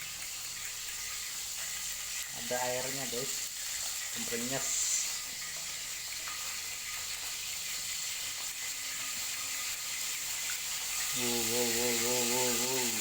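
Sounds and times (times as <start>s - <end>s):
oil sizzling in frying pan: 0.0s - 13.0s.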